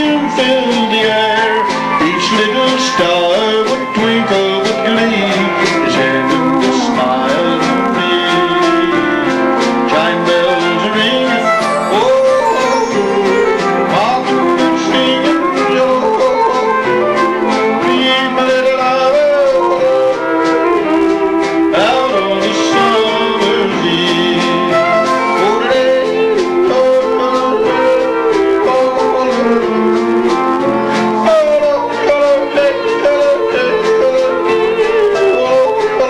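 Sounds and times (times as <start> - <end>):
country band playing: 0.0 - 36.0.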